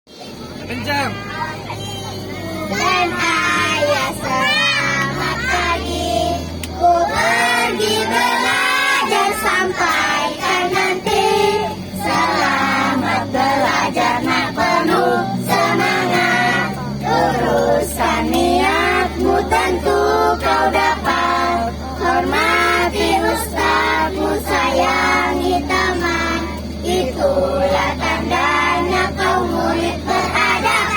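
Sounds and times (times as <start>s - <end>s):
bus hum: 0.1s - 30.9s
children singing together: 1.2s - 30.9s.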